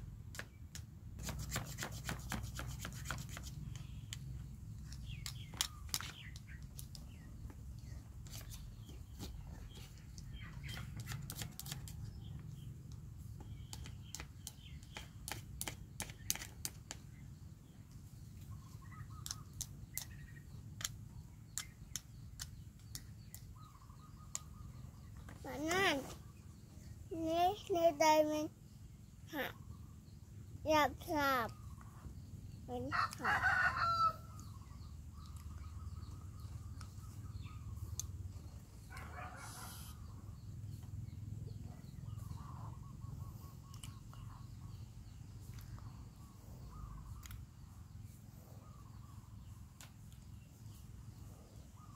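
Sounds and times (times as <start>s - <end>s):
distant bird calls: 0.3s - 51.9s.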